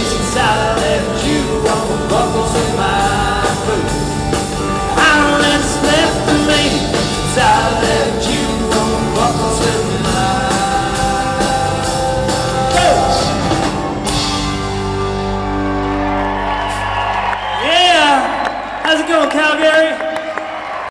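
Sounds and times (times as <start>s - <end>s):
country rock band music: 0.0s - 20.0s.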